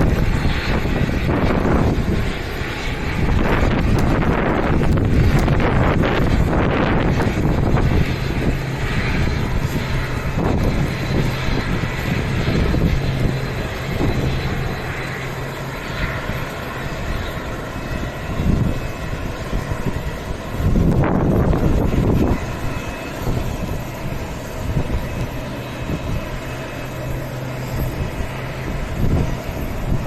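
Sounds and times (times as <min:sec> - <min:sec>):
turboprop engine rumble: 0:00.0 - 0:30.0.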